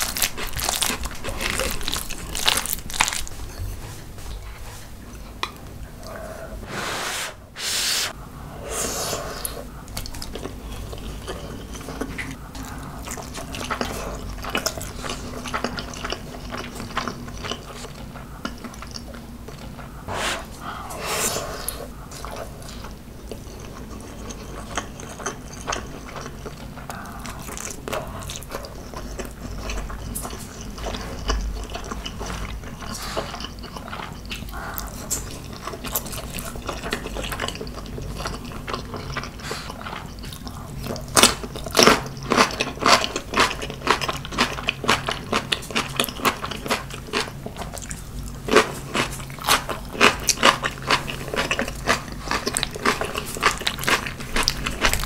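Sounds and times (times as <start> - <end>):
person chewing food: 0.0 - 6.8, 8.2 - 55.0.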